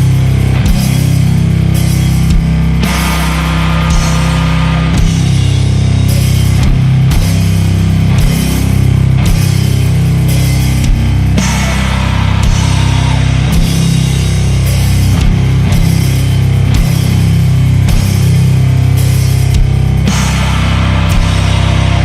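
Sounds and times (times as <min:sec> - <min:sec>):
heavy distorted metal music: 0:00.0 - 0:22.0.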